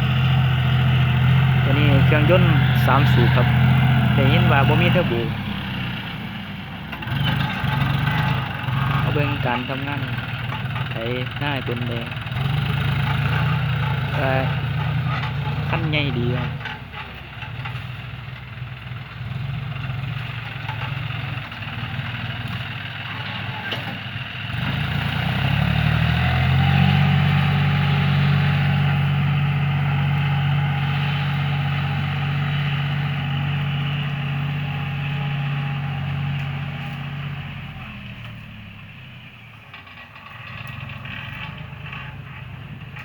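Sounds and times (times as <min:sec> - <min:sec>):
tractor diesel engine revving: 0:00.0 - 0:43.0.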